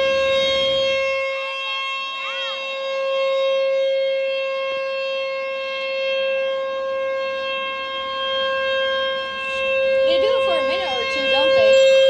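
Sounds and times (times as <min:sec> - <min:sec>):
wailing warning siren: 0:00.0 - 0:12.0.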